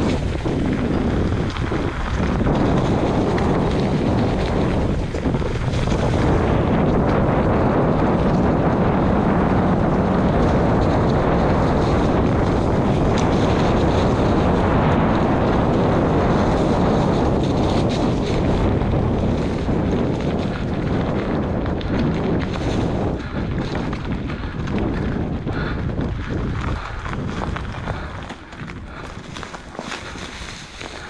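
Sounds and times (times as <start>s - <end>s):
steady low rumble: 0.0s - 31.0s
wind buffeting microphone: 0.0s - 31.0s.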